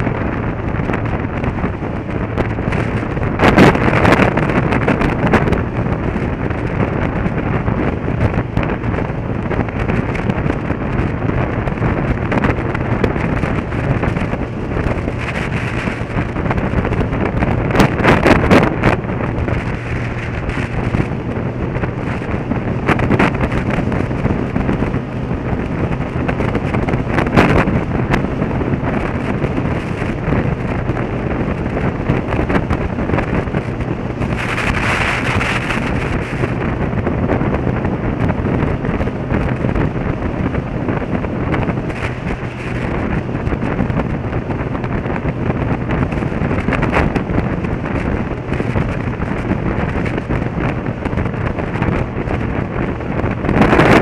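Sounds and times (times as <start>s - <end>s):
motorcycle engine: 0.0s - 54.0s
wind rush on microphone: 0.0s - 54.0s.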